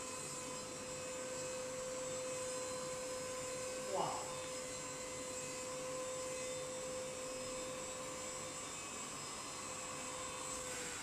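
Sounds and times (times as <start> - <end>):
vacuum cleaner motor whining: 0.0 - 11.0.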